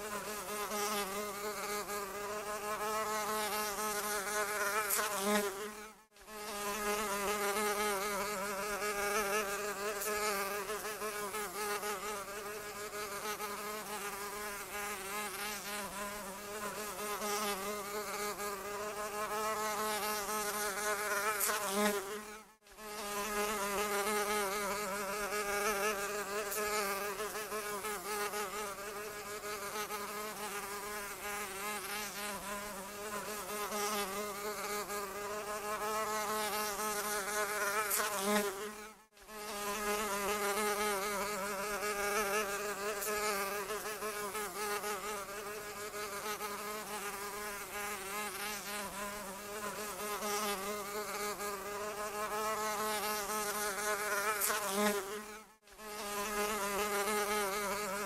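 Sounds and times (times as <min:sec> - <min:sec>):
housefly buzzing: 0:00.0 - 0:58.0.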